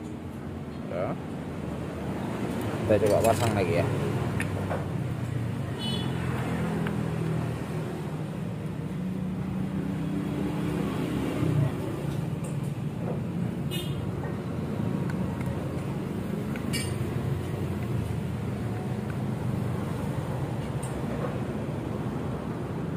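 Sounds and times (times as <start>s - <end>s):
low traffic rumble: 0.0s - 22.9s.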